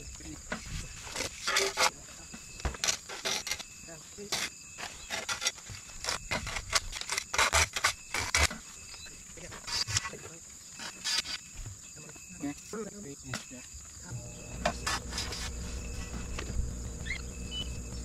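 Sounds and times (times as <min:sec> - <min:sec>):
insect chirring: 0:00.0 - 0:18.0.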